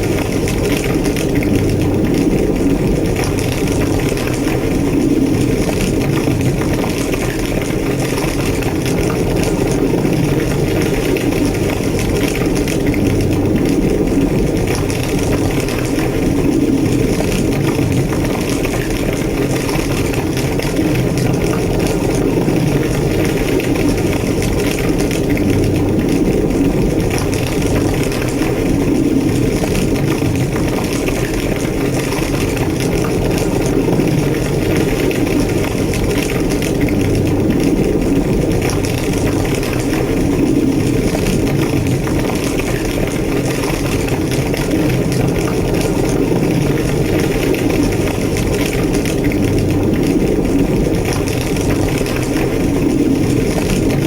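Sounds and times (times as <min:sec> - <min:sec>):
large fire roaring and crackling: 0:00.0 - 0:54.0.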